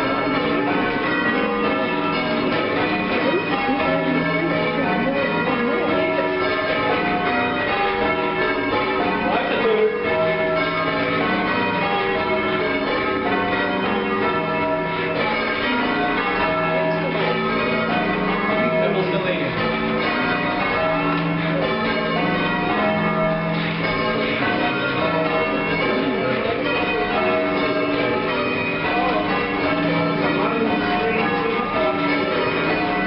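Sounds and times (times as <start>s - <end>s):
church bells change ringing: 0.0s - 33.0s.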